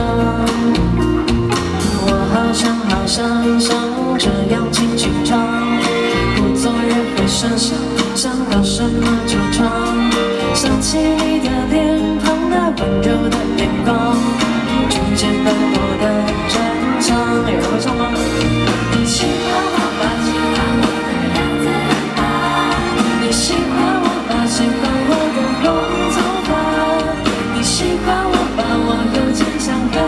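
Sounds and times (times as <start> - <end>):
bass: 0.0 - 30.0
live pop band playing: 0.0 - 30.0
steady drum beat: 0.0 - 30.0.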